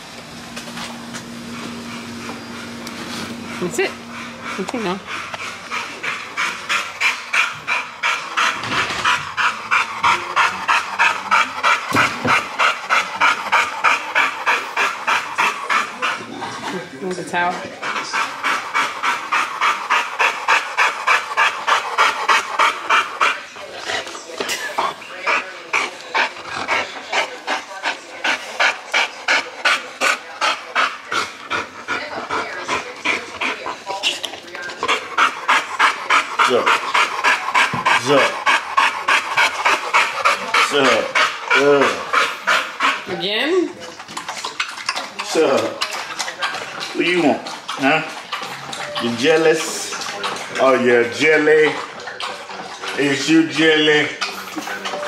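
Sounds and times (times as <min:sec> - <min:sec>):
dog panting hard: 0:00.8 - 0:55.0.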